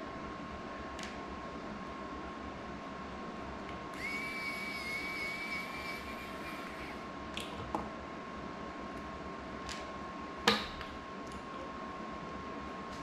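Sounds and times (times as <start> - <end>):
faint constant whine: 0.0 - 13.0.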